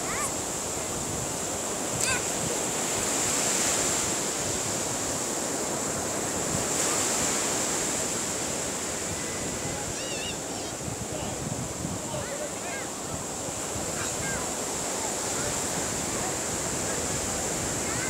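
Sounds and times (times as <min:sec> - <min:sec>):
surf washing on sand: 0:00.0 - 0:18.0
wind on microphone: 0:00.0 - 0:18.0.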